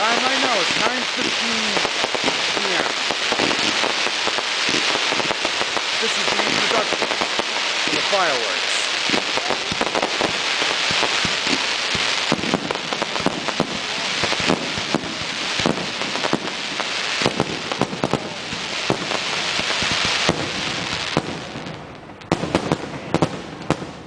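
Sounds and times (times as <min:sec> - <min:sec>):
firework shells bursting: 0:00.0 - 0:21.4
fireworks crackling hiss: 0:00.0 - 0:24.0.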